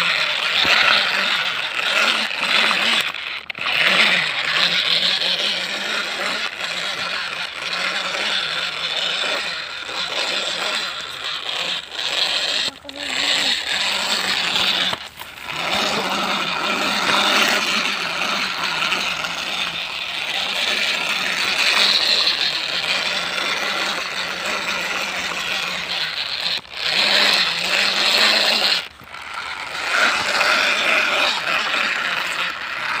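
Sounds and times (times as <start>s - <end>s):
toy truck wheels rattling: 0.0s - 33.0s.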